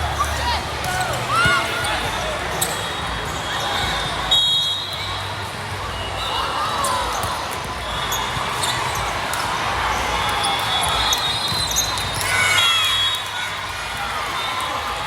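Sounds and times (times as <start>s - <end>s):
sneakers squeaking on a court: 0.0s - 13.2s.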